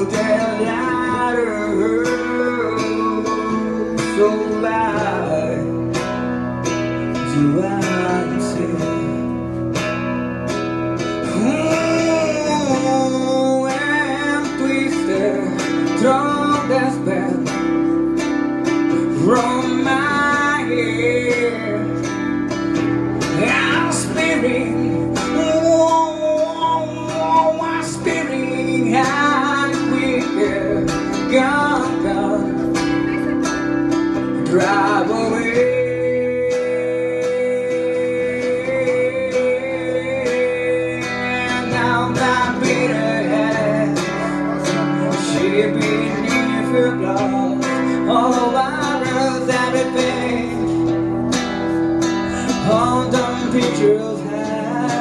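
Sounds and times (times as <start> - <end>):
guitar chords: 0.0 - 55.0
man singing into microphone: 0.0 - 55.0.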